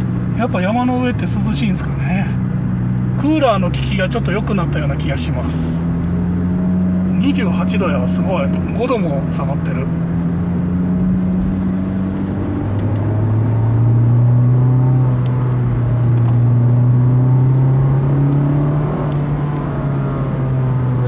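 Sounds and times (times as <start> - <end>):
car engine pulling uphill: 0.0 - 21.0.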